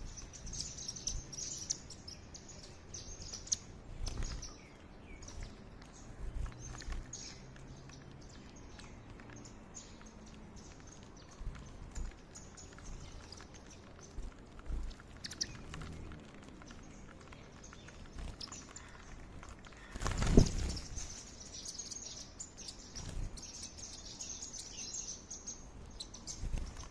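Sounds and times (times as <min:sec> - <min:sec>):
birds pecking clicks: 0:00.1 - 0:26.9.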